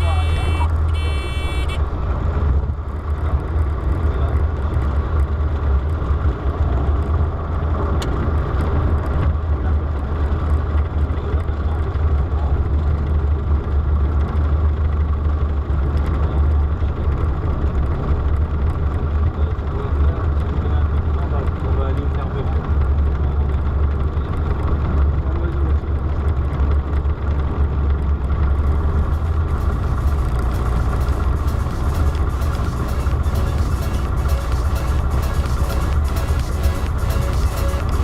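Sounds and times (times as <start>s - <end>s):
light aircraft engine drone: 0.0s - 38.0s.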